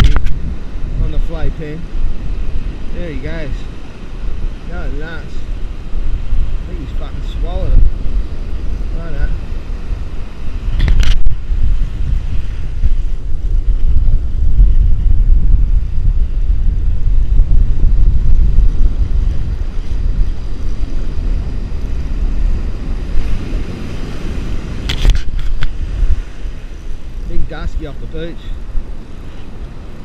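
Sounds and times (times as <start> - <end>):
small waves breaking on beach: 0.0 - 30.0
wind buffeting microphone: 0.0 - 30.0.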